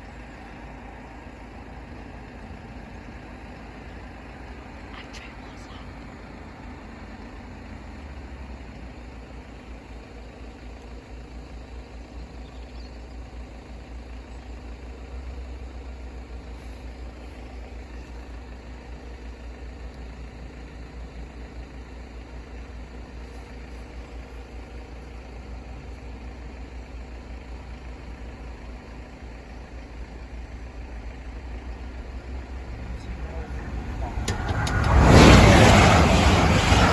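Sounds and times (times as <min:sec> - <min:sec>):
engine idling: 0:00.0 - 0:36.9.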